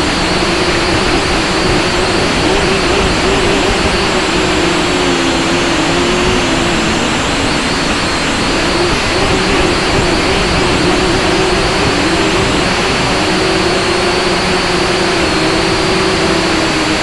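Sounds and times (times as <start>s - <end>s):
drone propellers whirring: 0.0s - 17.0s
wind rushing: 0.0s - 17.0s.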